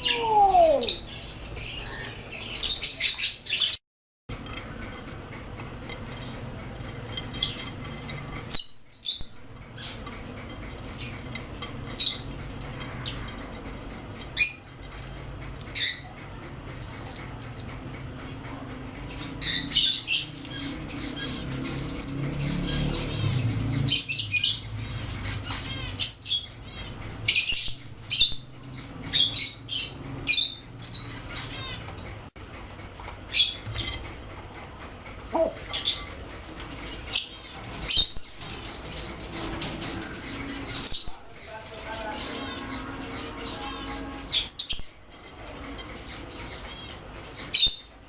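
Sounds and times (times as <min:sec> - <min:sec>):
parrots squawking and whistling: 0:00.0 - 0:03.8, 0:07.2 - 0:14.7, 0:15.6 - 0:32.1, 0:33.3 - 0:34.1, 0:35.3 - 0:48.0.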